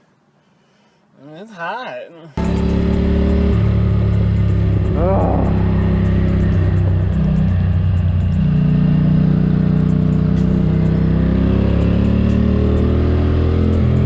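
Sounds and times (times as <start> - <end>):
motorcycle engine revving: 2.4 - 14.0.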